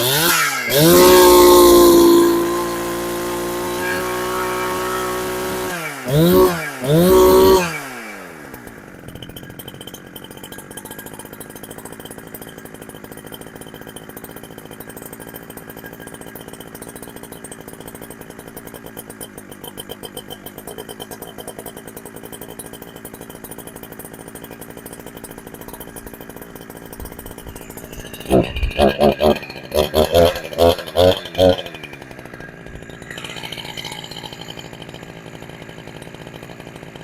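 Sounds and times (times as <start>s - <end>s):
chainsaw engine idling: 0.0s - 37.0s.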